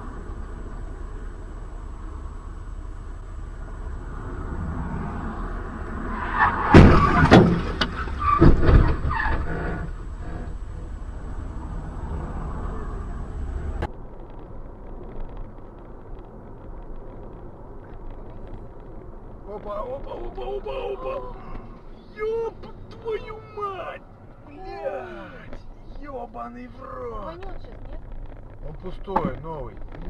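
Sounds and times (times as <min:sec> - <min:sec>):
road noise: 0:00.0 - 0:30.0
vehicle rumbling: 0:00.0 - 0:30.0.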